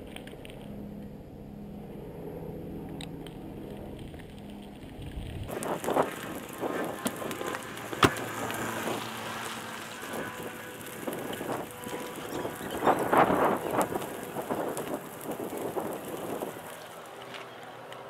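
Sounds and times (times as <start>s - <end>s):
crunching on gravel track: 3.0s - 18.0s.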